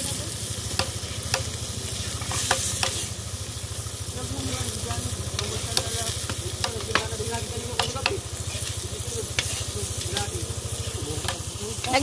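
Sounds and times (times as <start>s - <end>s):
chicken sizzling in oil: 0.0s - 12.0s
metal spatula scraping wok: 0.6s - 3.3s, 4.7s - 12.0s.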